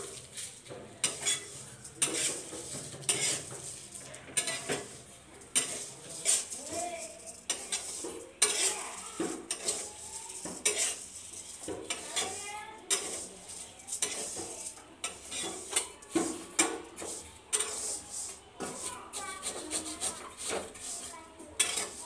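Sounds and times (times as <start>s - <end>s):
food sizzling: 0.0s - 22.0s
metal spoon scraping a wok: 0.0s - 22.0s.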